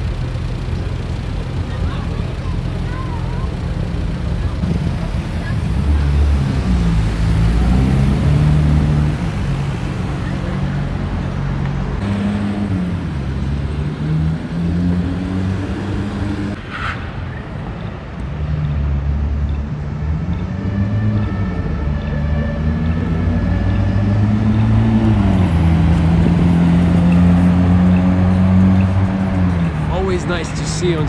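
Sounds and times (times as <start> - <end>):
sports car engines revving: 0.0 - 16.8, 18.0 - 31.0.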